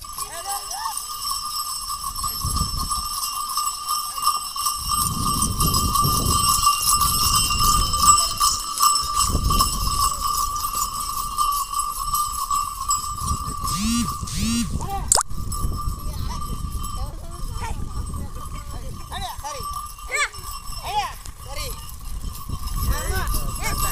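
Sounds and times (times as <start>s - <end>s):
bullock bells jingling: 0.0s - 23.9s.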